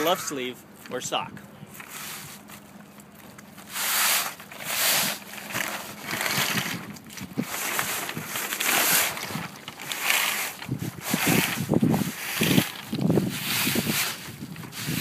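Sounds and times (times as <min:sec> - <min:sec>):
sail cloth rustling: 0:01.7 - 0:15.0.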